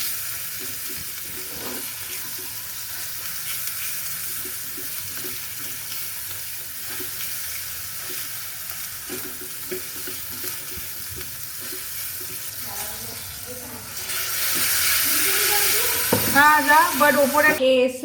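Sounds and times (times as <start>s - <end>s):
food sizzling in a pan: 0.0s - 17.6s.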